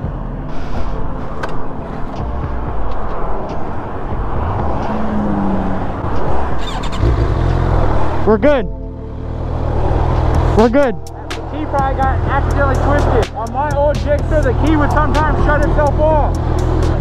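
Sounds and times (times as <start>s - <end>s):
highway traffic noise: 0.0s - 17.0s
motorcycle engines running: 1.7s - 17.0s.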